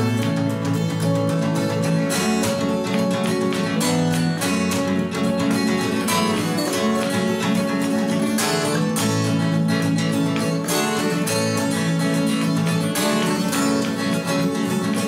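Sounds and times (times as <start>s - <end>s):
acoustic guitars strumming chords: 0.0s - 15.0s.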